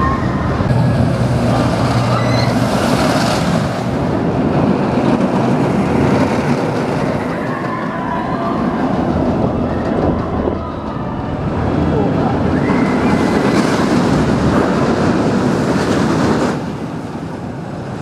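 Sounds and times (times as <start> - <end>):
roller coaster wheels roaring: 0.0 - 18.0.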